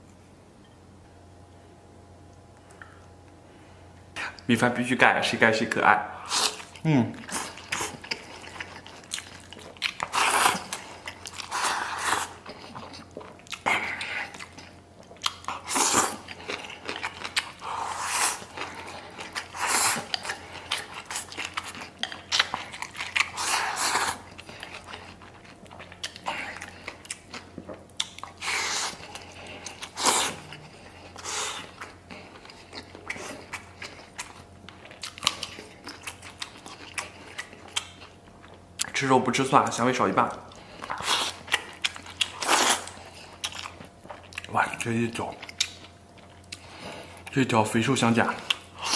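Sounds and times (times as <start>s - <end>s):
close-up chewing: 6.2s - 39.0s, 39.6s - 47.4s, 48.0s - 48.9s.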